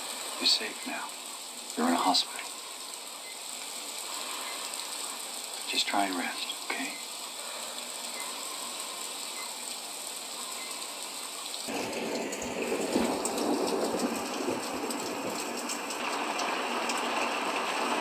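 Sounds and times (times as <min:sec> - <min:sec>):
faint steady hiss: 0:00.0 - 0:18.0
rain falling: 0:00.0 - 0:18.0.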